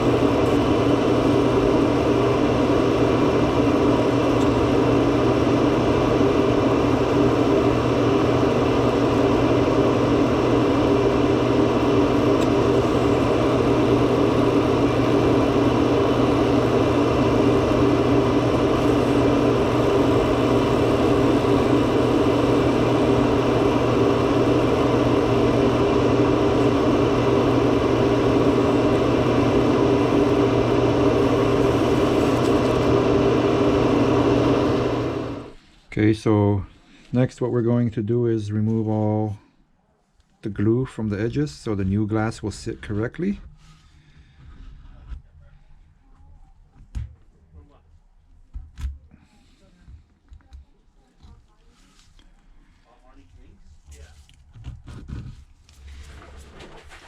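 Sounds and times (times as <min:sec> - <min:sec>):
steady machine hum: 0:00.0 - 0:46.8.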